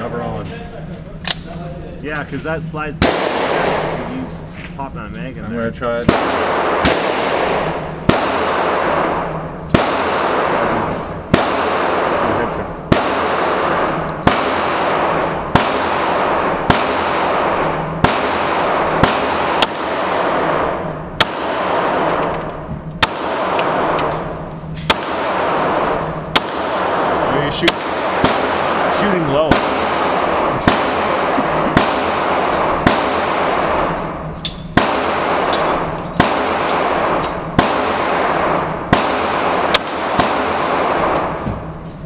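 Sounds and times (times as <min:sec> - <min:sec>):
pistol shots: 0:03.0 - 0:04.3, 0:06.1 - 0:41.8.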